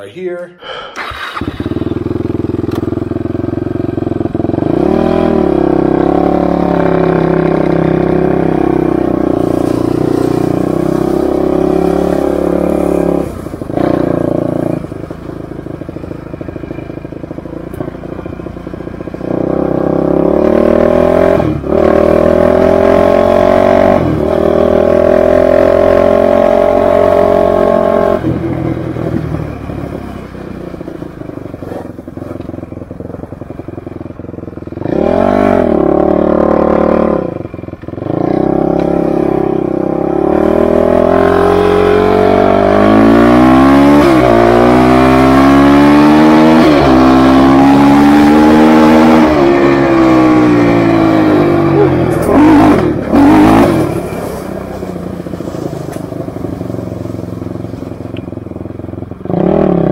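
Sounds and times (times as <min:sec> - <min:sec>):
quad engine revving: 0:00.6 - 0:15.1, 0:19.2 - 0:30.2, 0:34.8 - 0:57.2, 0:59.2 - 0:59.9.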